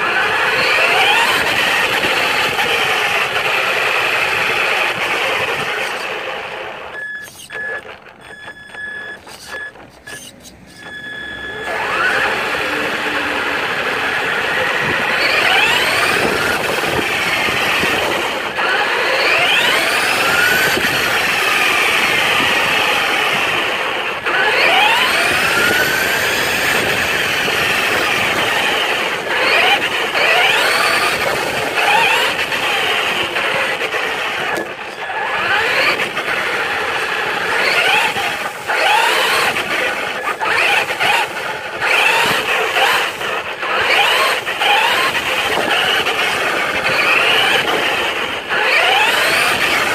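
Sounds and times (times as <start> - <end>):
electric motor and gears whining: 0.0 - 49.9.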